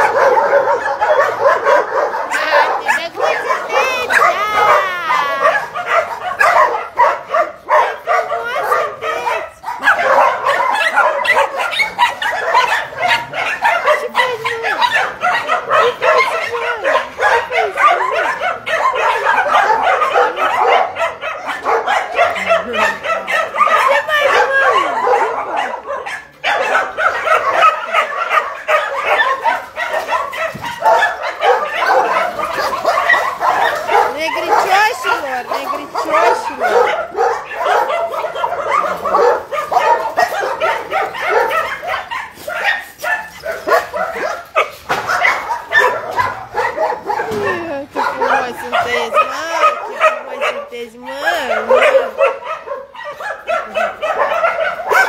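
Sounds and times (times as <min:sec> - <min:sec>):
many dogs barking and yipping: 0:00.0 - 0:55.0.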